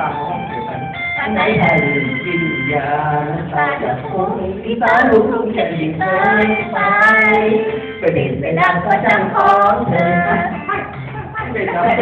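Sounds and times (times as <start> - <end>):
backing music: 0.0 - 12.0
person singing into a microphone: 0.0 - 12.0.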